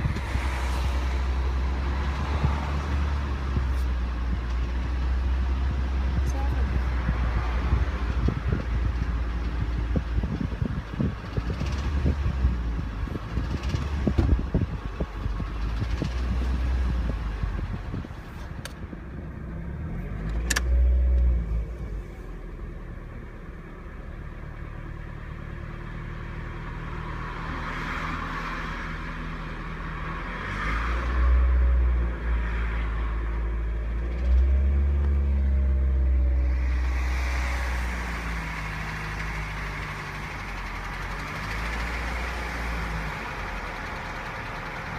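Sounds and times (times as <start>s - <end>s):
car engine revving: 0.0s - 25.6s, 26.3s - 44.9s.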